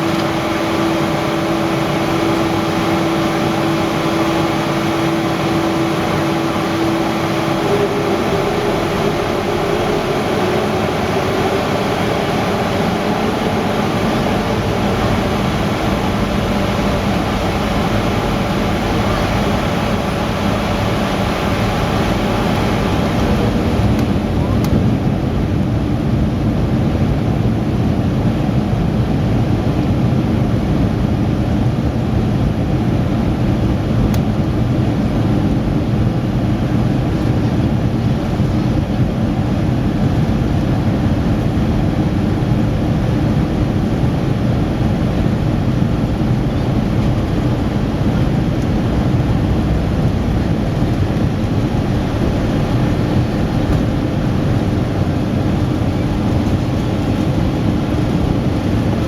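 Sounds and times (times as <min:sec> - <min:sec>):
jet engine noise in cabin: 0:00.0 - 0:59.0.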